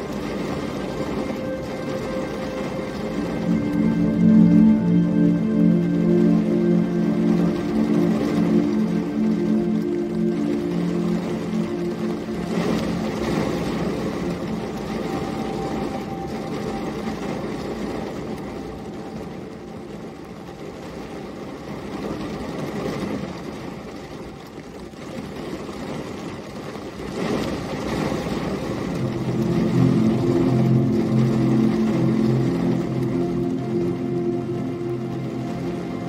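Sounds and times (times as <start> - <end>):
rain pattering on windshield: 0.0 - 36.0.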